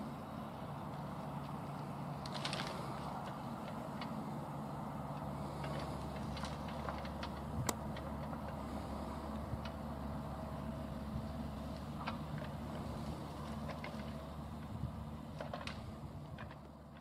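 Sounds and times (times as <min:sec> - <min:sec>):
distant diesel engine running: 0:00.0 - 0:17.0.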